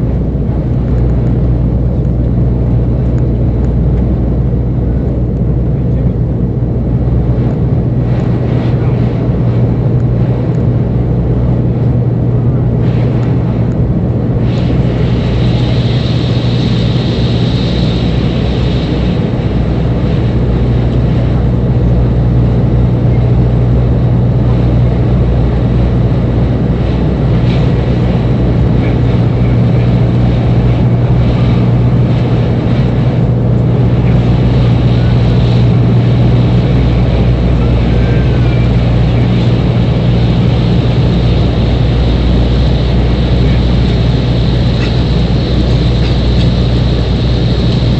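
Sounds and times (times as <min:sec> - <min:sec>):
airliner engines droning in cabin: 0:00.0 - 0:47.9
faint high whine: 0:00.0 - 0:47.9.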